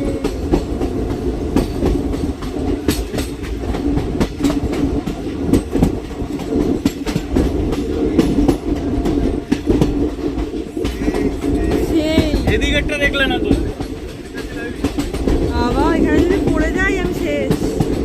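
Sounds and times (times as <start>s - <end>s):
train carriage rumble: 0.0s - 18.0s
wheels clacking over rail joints: 0.0s - 18.0s.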